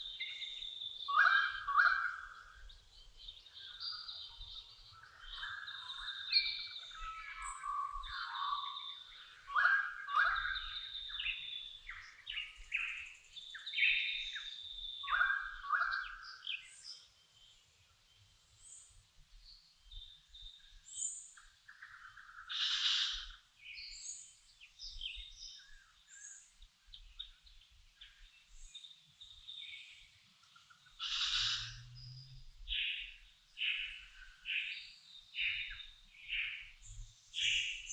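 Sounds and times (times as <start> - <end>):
birds singing and calling: 0.0 - 37.9.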